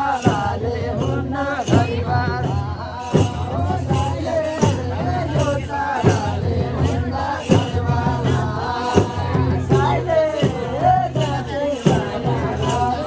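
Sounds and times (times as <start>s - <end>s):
people singing: 0.0s - 13.0s
steady drum beat: 0.0s - 13.0s.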